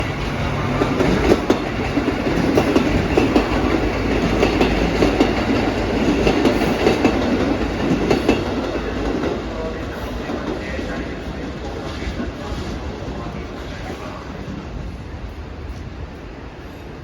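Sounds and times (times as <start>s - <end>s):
diesel train rumbling: 0.0s - 17.0s
train wheels clattering over rail joints: 0.1s - 14.0s.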